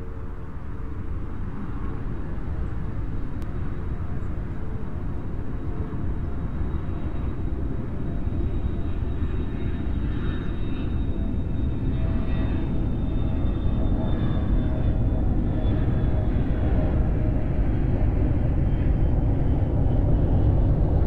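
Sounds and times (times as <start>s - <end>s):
airplane engine rumble: 0.0s - 21.0s
faint high whine: 0.0s - 21.0s.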